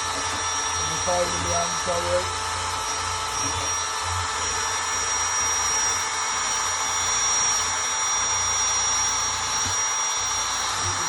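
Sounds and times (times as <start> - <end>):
drill with wire brush on metal: 0.0 - 11.0.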